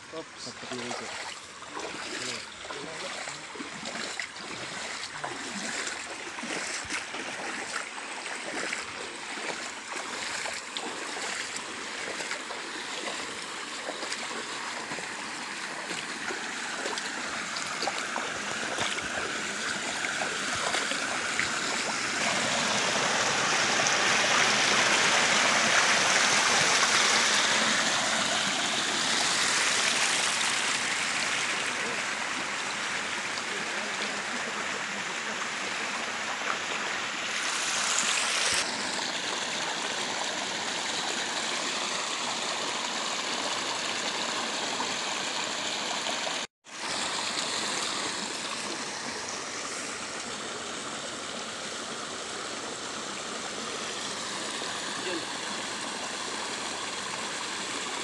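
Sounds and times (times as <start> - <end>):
water rushing over a dam: 0.1 - 58.0.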